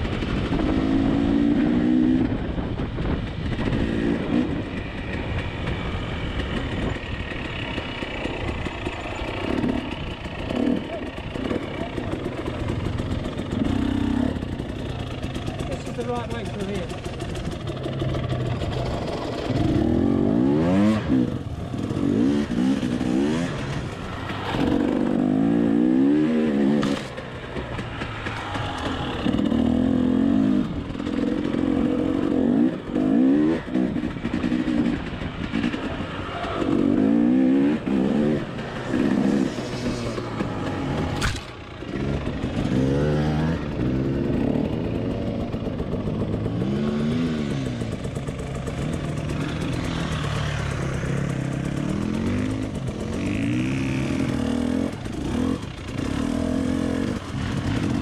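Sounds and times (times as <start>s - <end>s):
dirt bike engine revving: 0.1s - 2.5s, 3.5s - 58.0s.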